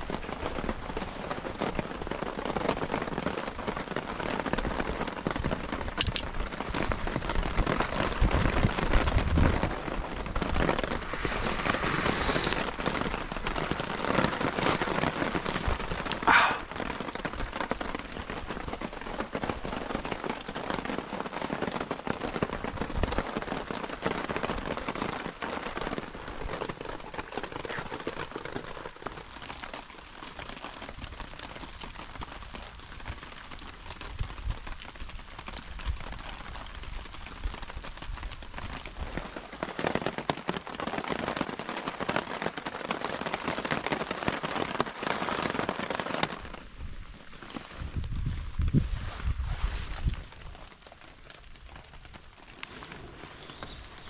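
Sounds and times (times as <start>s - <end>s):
rain on a tarp: 0.0s - 54.0s.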